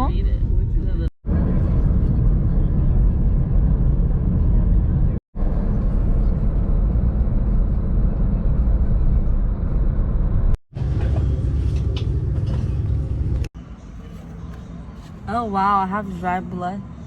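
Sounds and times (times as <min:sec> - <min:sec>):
road noise inside moving car: 0:00.0 - 0:17.0.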